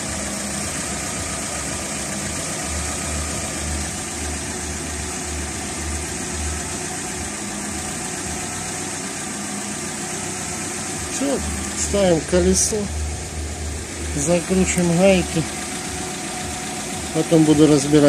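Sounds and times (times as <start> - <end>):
car engine idling: 0.0 - 18.0
low throb: 0.0 - 18.0.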